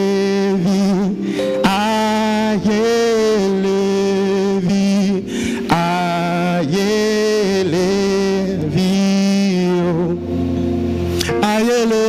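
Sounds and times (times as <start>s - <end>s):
man singing long notes: 0.0s - 10.5s, 11.2s - 12.0s.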